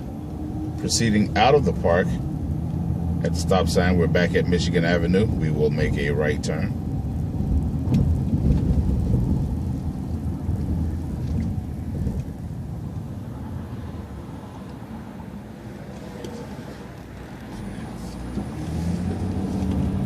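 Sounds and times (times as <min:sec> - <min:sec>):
bus engine rumble: 0:00.0 - 0:20.0
road noise: 0:00.0 - 0:20.0.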